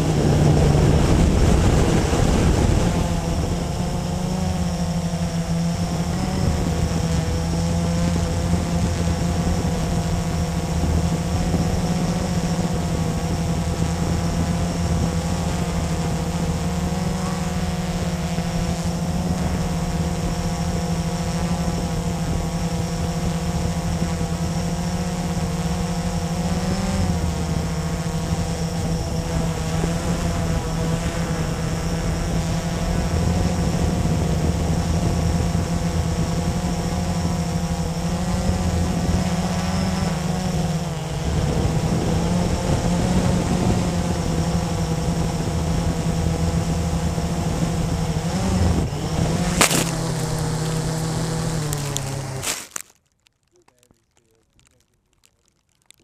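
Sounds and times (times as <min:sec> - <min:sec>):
quadcopter motors whining: 0:00.0 - 0:52.9.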